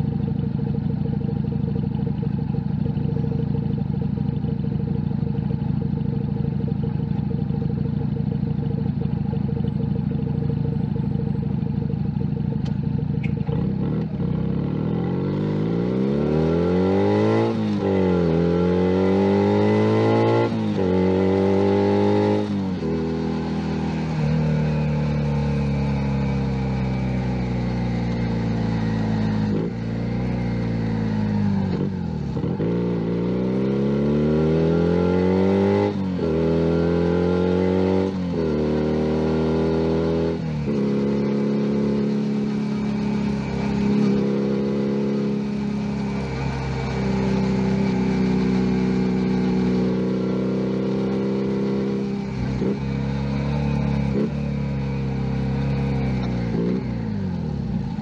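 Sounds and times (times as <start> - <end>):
motorcycle engine shifting gears: 0.0 - 58.0.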